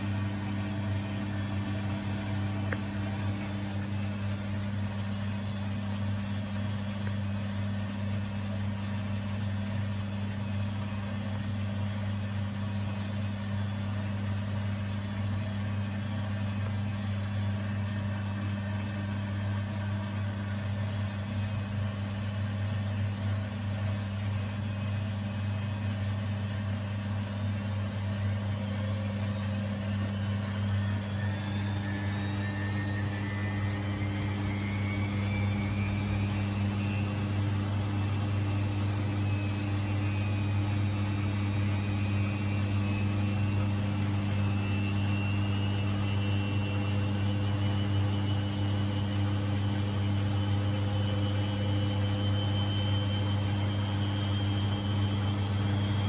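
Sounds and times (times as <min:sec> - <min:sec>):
drum motor whine: 0:00.0 - 0:56.0
washing machine motor hum: 0:00.0 - 0:56.0.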